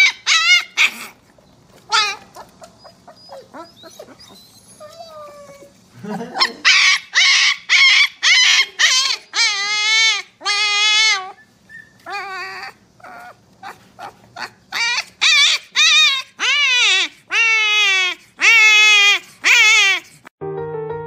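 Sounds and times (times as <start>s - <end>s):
puppy yelping and howling: 0.0s - 1.2s, 1.9s - 20.3s.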